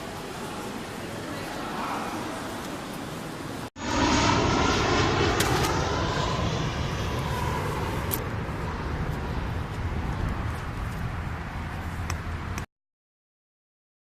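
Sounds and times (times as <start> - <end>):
aircraft engine roar: 0.0 - 12.7.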